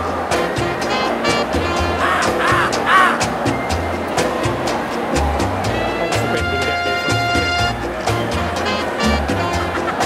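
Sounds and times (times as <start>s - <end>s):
music with beat and bass line: 0.0s - 10.0s.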